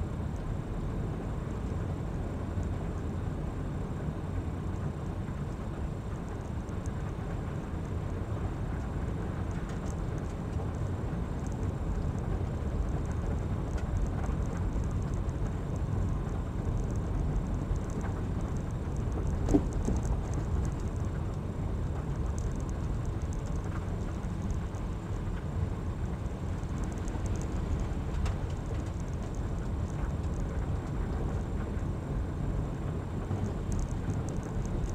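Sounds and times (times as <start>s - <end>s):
engine and tyres rumbling: 0.0s - 34.9s.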